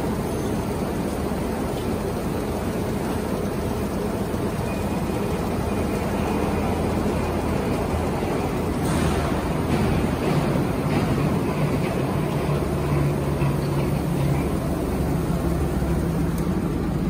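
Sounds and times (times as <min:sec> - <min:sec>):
printing press running: 0:00.0 - 0:17.0.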